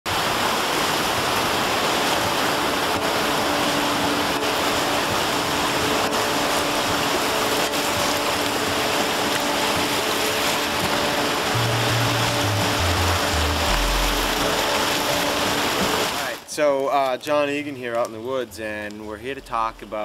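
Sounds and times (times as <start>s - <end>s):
floodwater rushing: 0.1s - 16.5s.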